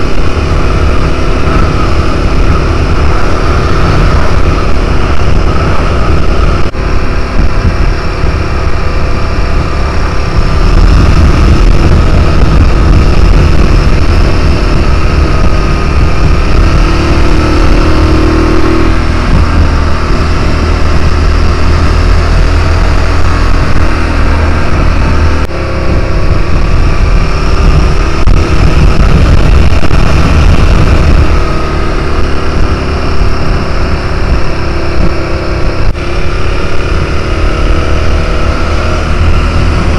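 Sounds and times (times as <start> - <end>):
motorcycle engine running: 0.0 - 39.9
wind noise rush: 0.0 - 39.9.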